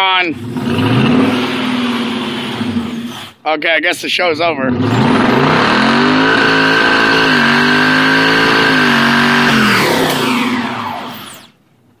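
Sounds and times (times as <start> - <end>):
car engine at high revs: 0.3 - 3.4, 4.6 - 11.6.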